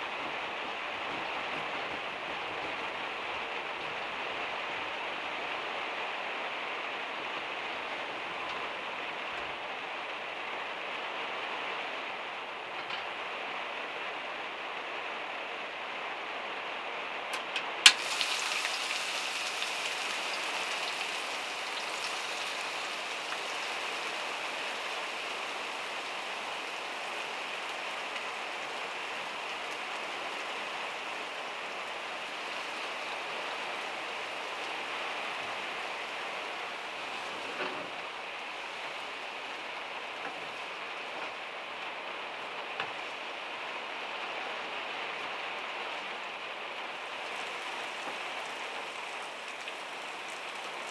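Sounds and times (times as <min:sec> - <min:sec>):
rain on metal roof: 0:00.0 - 0:50.9.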